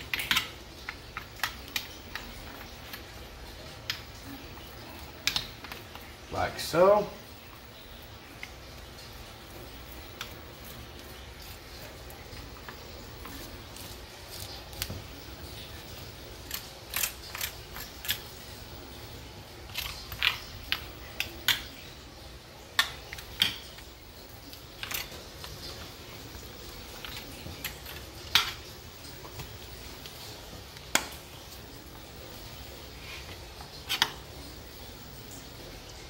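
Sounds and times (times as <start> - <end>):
low room hum: 0.0 - 36.0.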